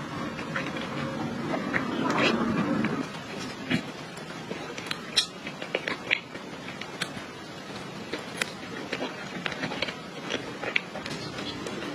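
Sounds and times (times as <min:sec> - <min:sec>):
wet chewing and mouth noises: 0:00.1 - 0:11.9.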